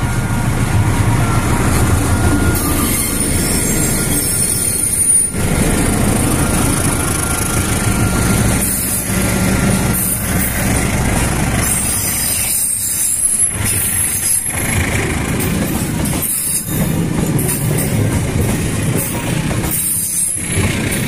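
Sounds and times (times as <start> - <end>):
diesel locomotive engine running: 0.0 - 21.0
train coaches rumbling on rails: 0.0 - 21.0.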